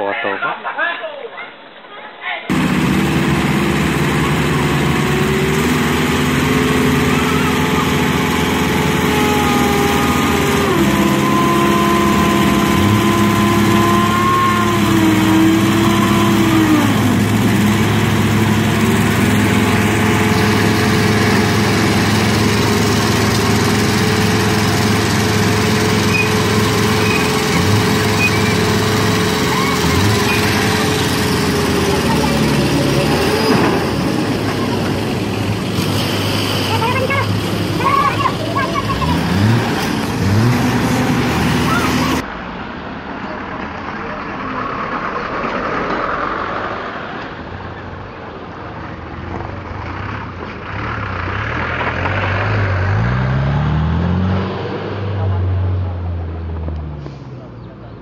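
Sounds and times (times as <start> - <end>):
heavy truck engines running: 2.5 - 58.0.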